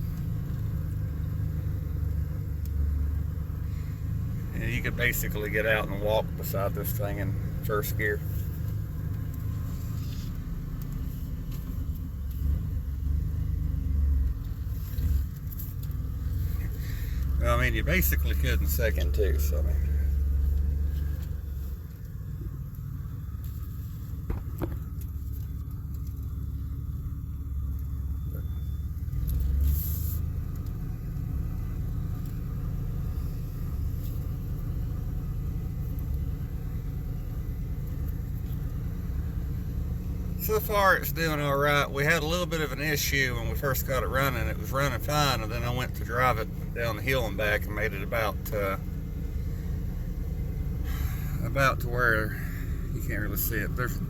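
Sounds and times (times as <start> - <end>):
truck engine droning at low revs: 0.0 - 54.0.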